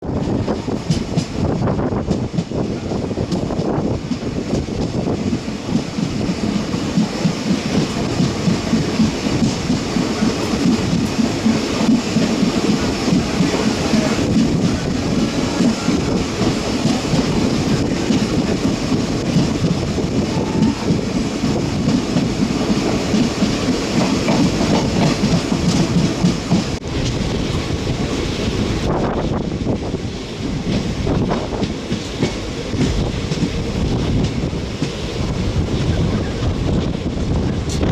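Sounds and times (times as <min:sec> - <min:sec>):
train wheels clattering on rails: 0:00.0 - 0:37.9.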